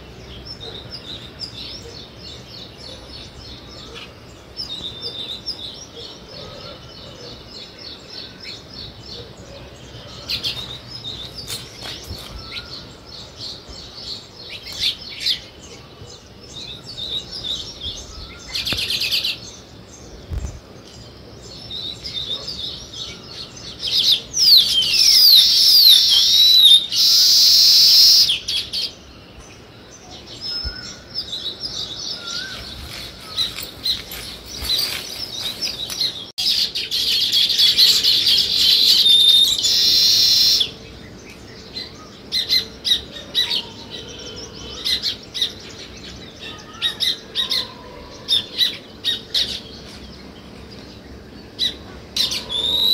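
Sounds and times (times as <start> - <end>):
small birds chirping: 0.0 - 52.9
sweeping falling bird calls: 0.0 - 52.9.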